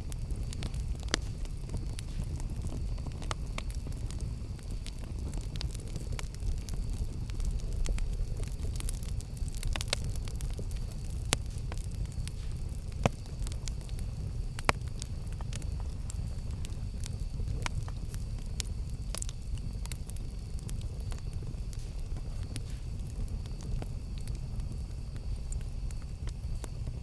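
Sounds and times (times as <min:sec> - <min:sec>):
campfire rumbling: 0:00.0 - 0:27.0
fire crackles and pops: 0:00.0 - 0:27.0.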